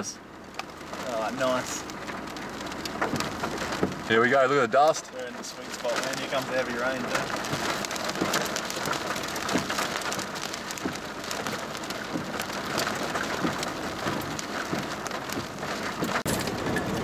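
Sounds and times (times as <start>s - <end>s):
heavy rain on vehicle: 0.0s - 17.0s.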